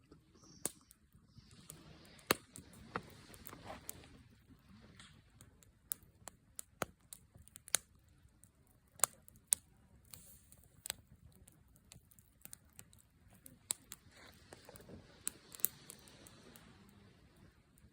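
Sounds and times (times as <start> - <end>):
campfire crackling and popping: 0.0 - 17.9.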